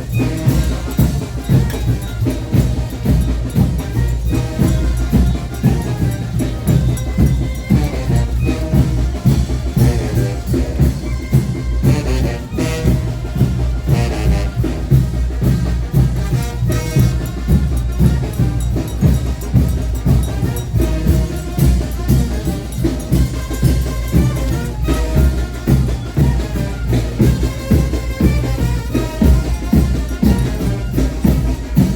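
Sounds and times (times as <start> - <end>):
brass band with drums: 0.0 - 31.9.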